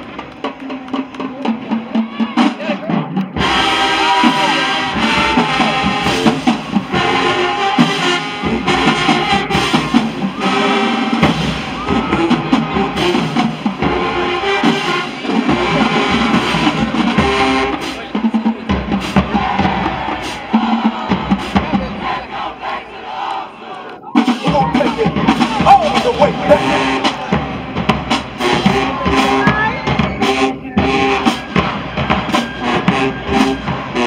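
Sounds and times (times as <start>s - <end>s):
bass drums: 0.0s - 22.3s, 24.2s - 34.0s
snare drums: 0.0s - 23.4s, 24.0s - 34.0s
trumpets: 3.4s - 34.0s.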